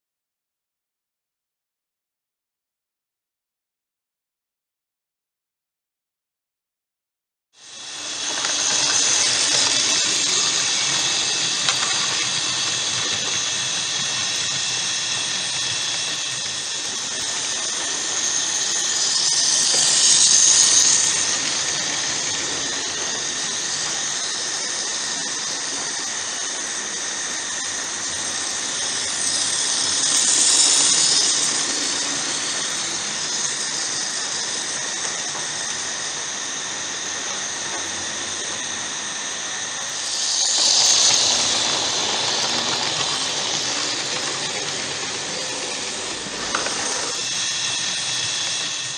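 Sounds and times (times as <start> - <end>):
model train high-pitched whine: 7.6 - 48.9.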